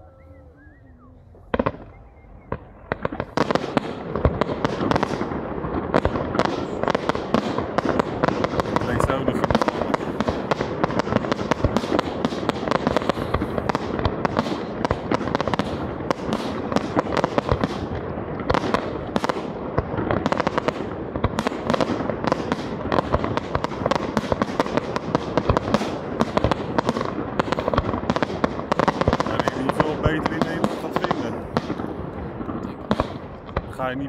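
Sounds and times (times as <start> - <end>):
firework shells bursting: 1.5 - 34.0.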